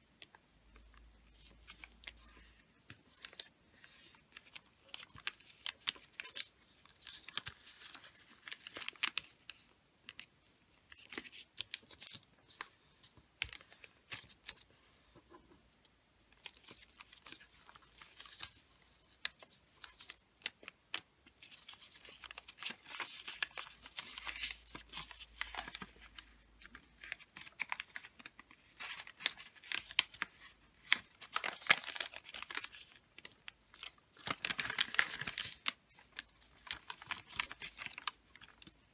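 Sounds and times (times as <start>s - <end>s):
wrapping paper rustling and crinkling: 0.8s - 14.8s, 16.3s - 38.9s.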